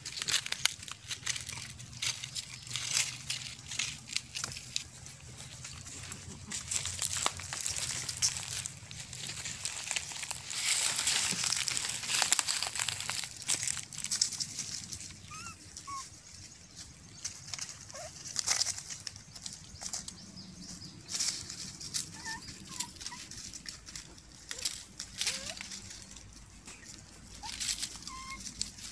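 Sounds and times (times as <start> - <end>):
dry leaves crackling and rustling: 0.0 - 28.9.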